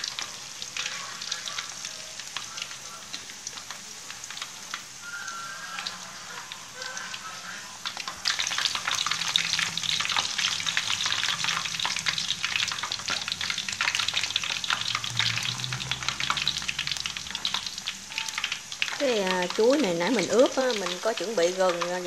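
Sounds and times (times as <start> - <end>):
banana slices crackling in hot oil: 0.0 - 22.0.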